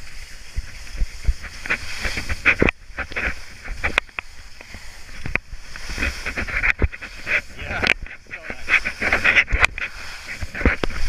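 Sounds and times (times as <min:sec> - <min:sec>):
ski edges scraping snow: 0:00.0 - 0:11.0
skis hissing over snow: 0:00.0 - 0:11.0.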